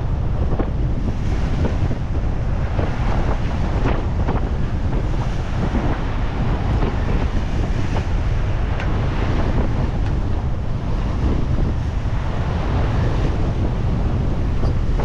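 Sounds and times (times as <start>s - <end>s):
waves rushing along hull: 0.0s - 15.0s
wind buffeting microphone: 0.0s - 15.0s.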